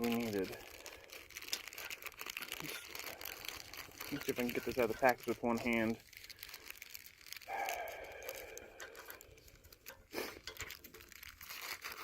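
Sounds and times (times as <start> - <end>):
plastic packaging crinkling: 0.0 - 12.0
plastic tearing: 0.0 - 12.0.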